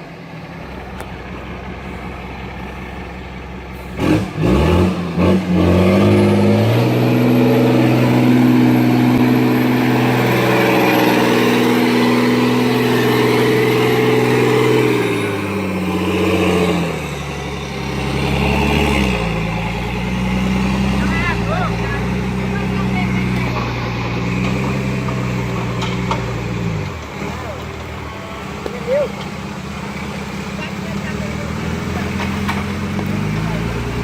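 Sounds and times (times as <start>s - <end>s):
heavy truck engine revving: 0.0s - 34.0s.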